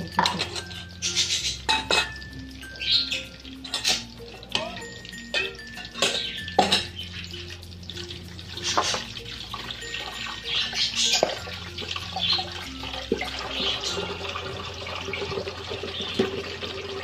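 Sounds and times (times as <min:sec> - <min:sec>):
chicken deep-frying in oil: 0:00.0 - 0:17.0
oil popping and crackling: 0:00.0 - 0:17.0.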